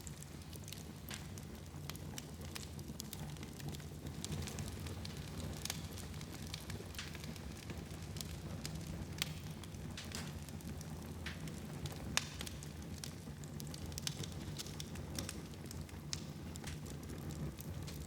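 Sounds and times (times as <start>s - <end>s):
low rumble of fire flames: 0.0s - 18.0s
wood fire crackling and popping: 0.0s - 18.0s.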